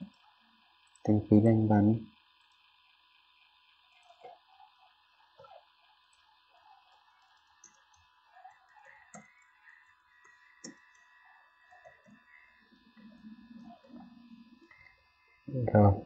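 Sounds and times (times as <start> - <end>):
faint hiss and hum: 0.0 - 16.0.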